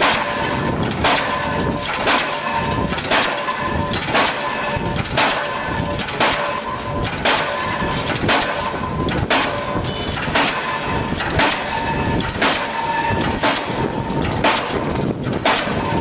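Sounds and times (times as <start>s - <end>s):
diesel pile hammer blows: 0.0s - 16.0s
steady mechanical rumble: 0.0s - 16.0s.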